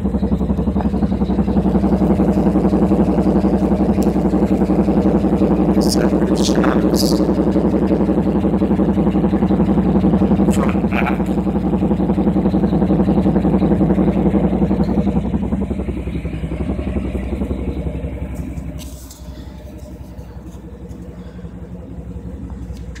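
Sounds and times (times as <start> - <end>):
car engine idling burble: 0.0 - 23.0.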